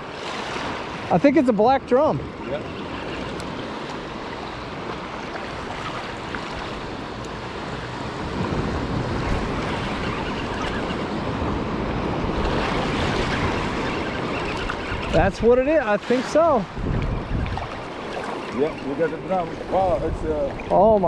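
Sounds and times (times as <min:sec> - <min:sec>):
ocean surf washing on beach: 0:00.0 - 0:21.0
wind buffeting microphone: 0:01.9 - 0:21.0.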